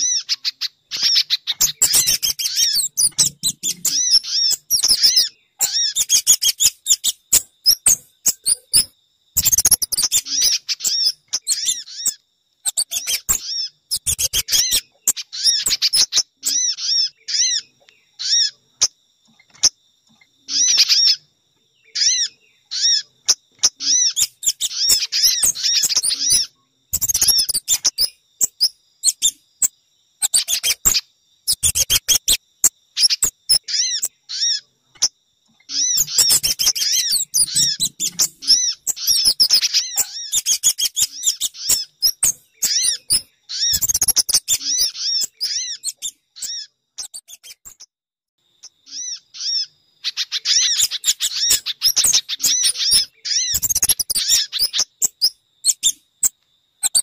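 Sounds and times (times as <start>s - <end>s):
songbirds chirping: 0.0s - 57.0s
bird chattering rattles: 0.1s - 17.6s, 22.8s - 32.4s, 35.8s - 47.9s, 48.9s - 56.0s.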